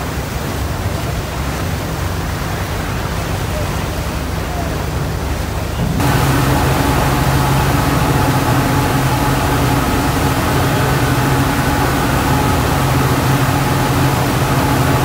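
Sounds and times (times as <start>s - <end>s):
outboard motors droning: 0.0s - 15.0s
wake and wind rushing: 0.0s - 15.0s.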